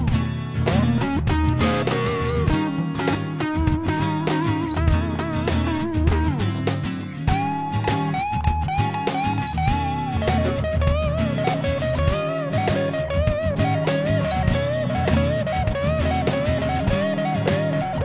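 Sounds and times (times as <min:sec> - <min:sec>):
band with electric guitar: 0:00.0 - 0:18.0.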